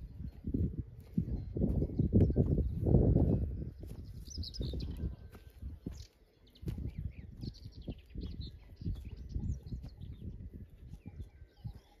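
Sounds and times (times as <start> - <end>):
footsteps on stony dirt path: 0.0 - 12.0
small birds chirping: 0.0 - 12.0.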